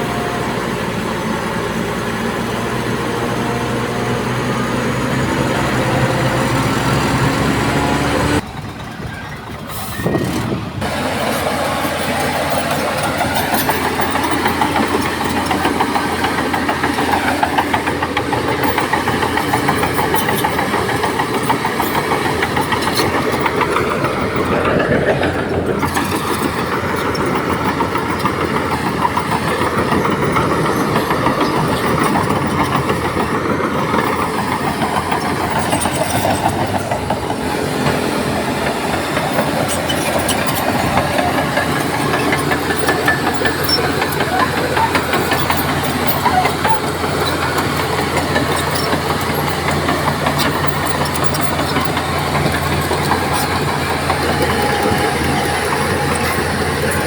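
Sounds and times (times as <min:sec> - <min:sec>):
diesel machinery engine rumble: 0:00.0 - 0:57.0
metal clanks and rattles: 0:08.4 - 0:57.0.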